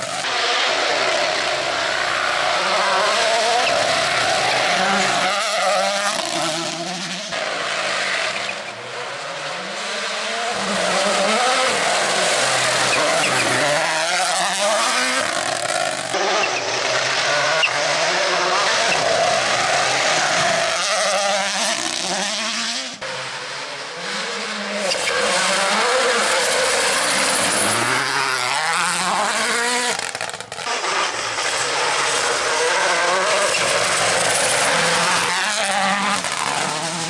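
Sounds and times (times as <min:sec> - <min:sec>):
rally car engines revving: 0:00.0 - 0:37.0
tyre and road noise: 0:00.0 - 0:37.0.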